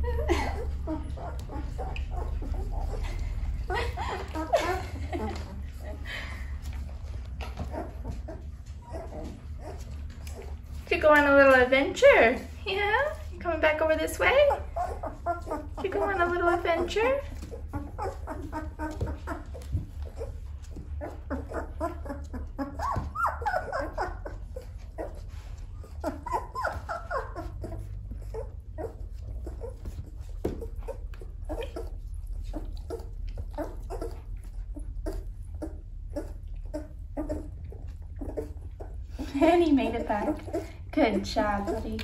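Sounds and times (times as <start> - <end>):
puppies whimpering and squeaking: 0.0 - 42.0.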